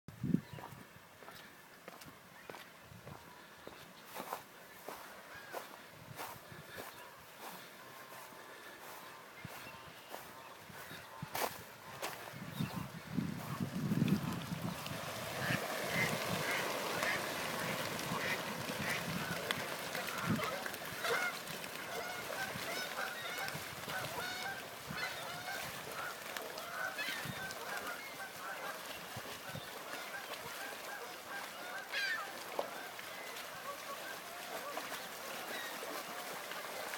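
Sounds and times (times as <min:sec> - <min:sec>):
flock of birds calling: 0:03.3 - 0:36.9.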